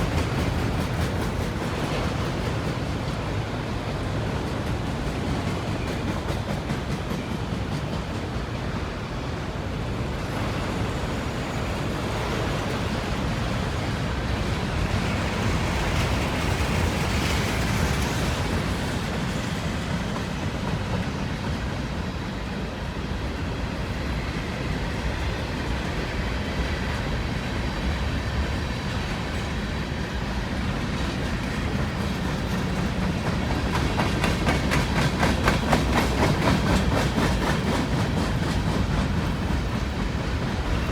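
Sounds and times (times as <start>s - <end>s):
clickety-clack over rail joints: 0.0s - 40.9s
train wheels rumbling on rails: 0.0s - 40.9s.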